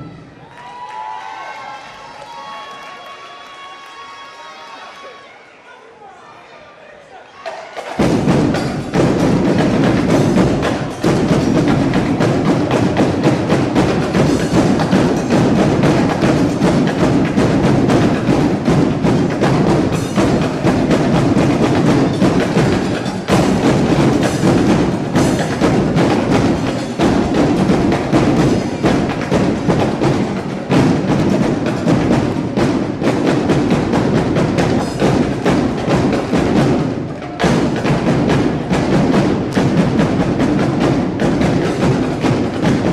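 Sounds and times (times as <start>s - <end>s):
loud percussion music: 0.0s - 0.5s, 7.4s - 42.9s.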